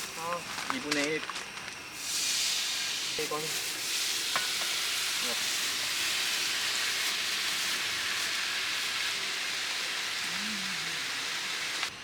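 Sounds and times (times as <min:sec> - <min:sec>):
food sizzling in a hot pan: 0:01.9 - 0:11.9.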